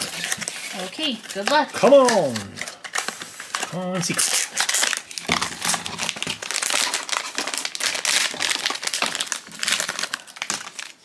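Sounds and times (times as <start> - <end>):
foil bag crinkling: 0.0 - 11.0
foil bag tearing open: 0.0 - 11.0.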